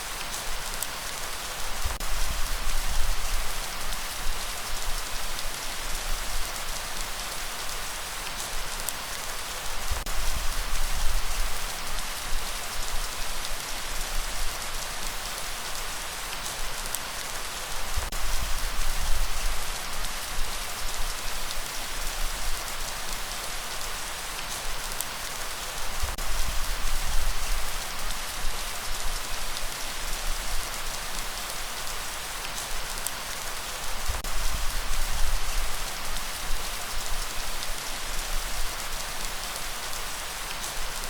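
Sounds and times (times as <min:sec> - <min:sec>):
light rain hiss: 0:00.0 - 0:41.0.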